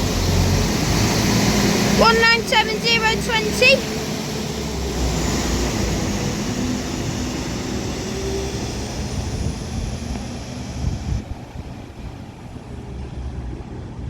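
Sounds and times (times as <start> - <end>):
diesel train accelerating: 0.0 - 14.0.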